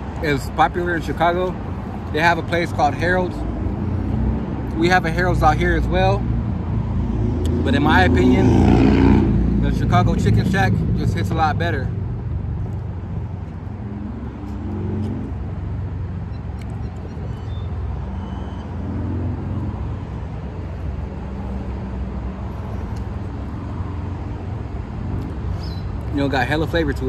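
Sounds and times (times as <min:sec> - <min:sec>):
car engines passing: 0:00.0 - 0:27.0
road traffic rumble: 0:00.0 - 0:27.0.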